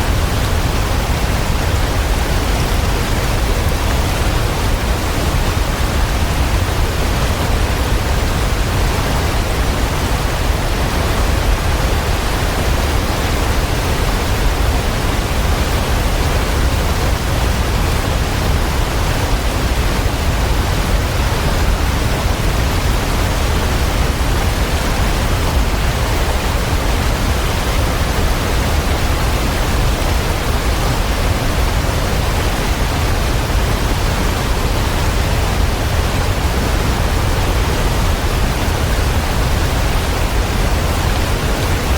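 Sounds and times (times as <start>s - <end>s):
low steady rushing noise: 0.0s - 41.9s.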